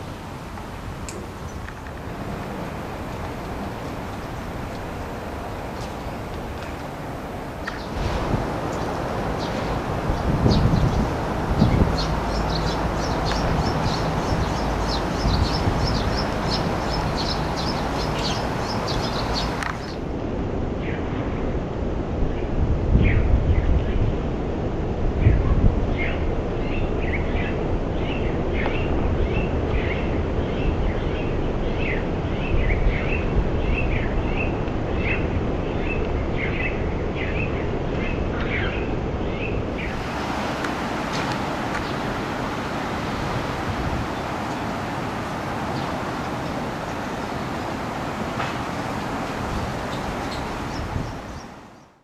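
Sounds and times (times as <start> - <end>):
starlings chirping: 0.0 - 20.0, 26.0 - 52.0
city background rumble: 0.0 - 52.0.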